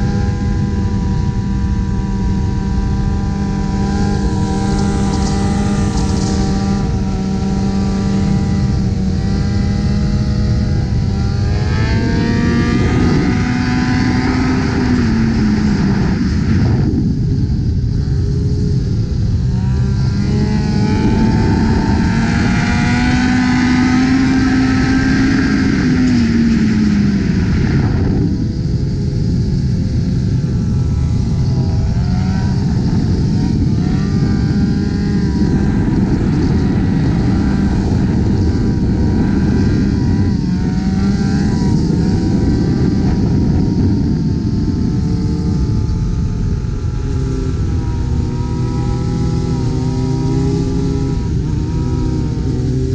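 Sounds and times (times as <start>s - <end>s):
motorcycle engine at speed: 0.0s - 52.9s
rushing road noise: 0.0s - 52.9s.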